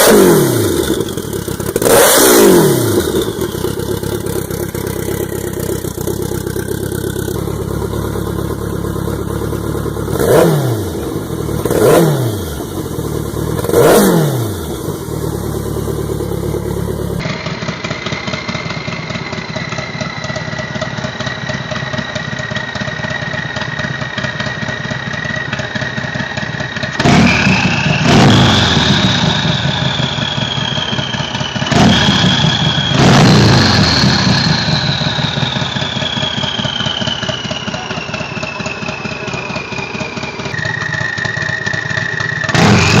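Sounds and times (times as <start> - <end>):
turbocharged engine revving: 0.0 - 22.2, 23.3 - 43.0
turbo whine: 0.0 - 43.0.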